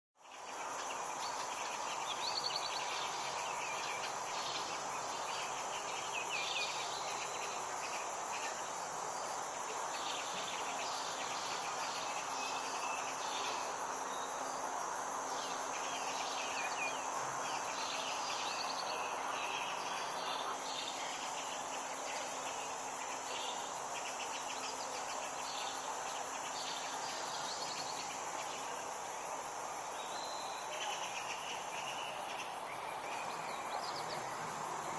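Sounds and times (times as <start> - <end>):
insects chirping: 0.2 - 34.9.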